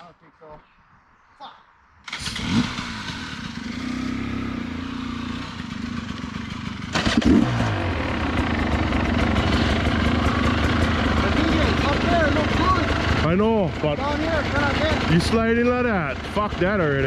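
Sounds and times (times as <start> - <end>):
dirt bike engine idling: 2.1 - 17.0.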